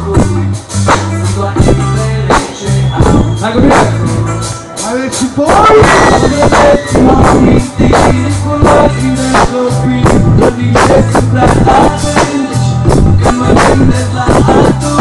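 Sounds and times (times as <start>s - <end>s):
amplified singing: 0.0s - 15.0s
bass: 0.0s - 15.0s
drum beat: 0.0s - 15.0s.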